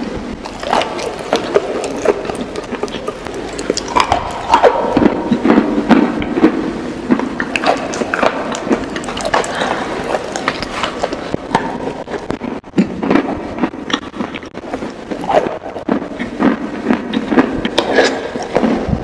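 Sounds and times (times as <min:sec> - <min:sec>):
chewing and crunching: 0:00.3 - 0:19.0.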